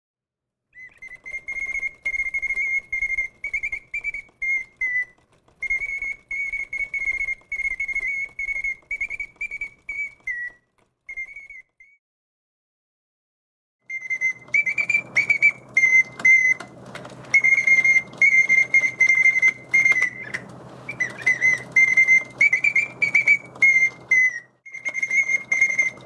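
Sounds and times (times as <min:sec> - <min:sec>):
faint mechanical noise: 0:00.8 - 0:11.7, 0:13.9 - 0:26.0
mechanical bird whistling birdsong: 0:00.8 - 0:12.0, 0:13.9 - 0:26.0.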